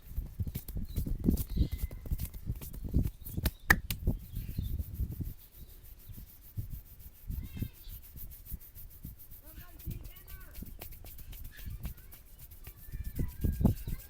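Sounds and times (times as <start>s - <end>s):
hands rubbing and patting head: 0.0s - 14.0s.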